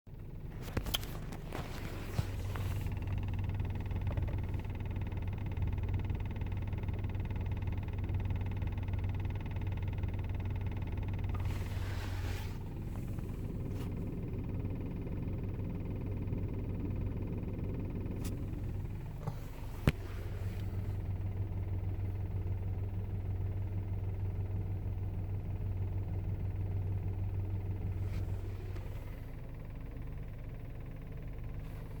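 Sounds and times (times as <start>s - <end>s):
car engine running: 0.1s - 32.0s
engine knocking: 0.1s - 32.0s.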